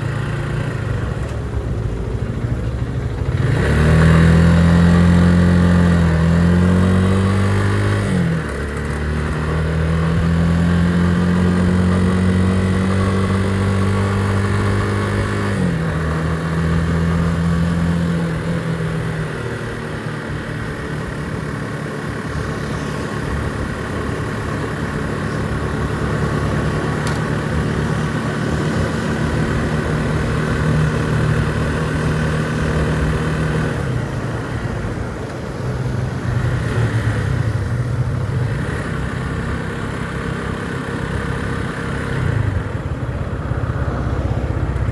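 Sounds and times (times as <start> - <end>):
road noise: 0.0 - 44.9
vehicle engine running: 0.0 - 44.9.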